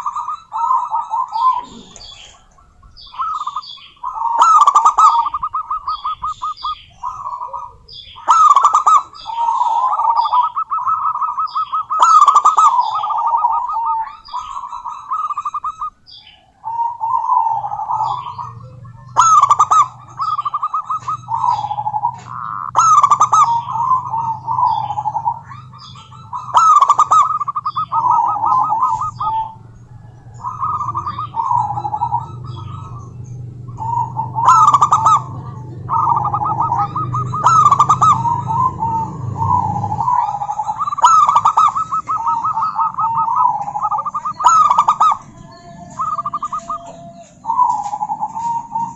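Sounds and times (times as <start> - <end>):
doves cooing in staccato notes: 0.0 - 48.9
low steady hum: 0.0 - 48.9.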